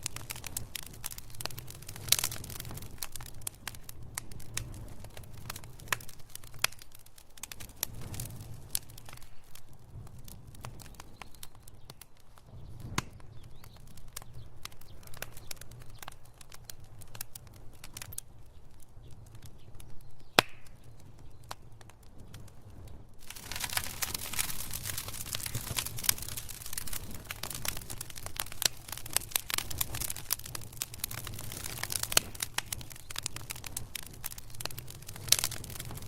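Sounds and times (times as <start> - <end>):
low rumble of burning: 0.0 - 36.0
wood fire crackling and popping: 0.0 - 36.0.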